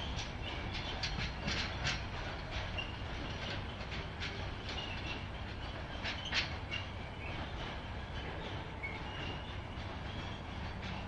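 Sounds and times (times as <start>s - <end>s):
freight train rumbling: 0.0s - 11.0s
wheels clicking over rail joints: 0.0s - 11.0s.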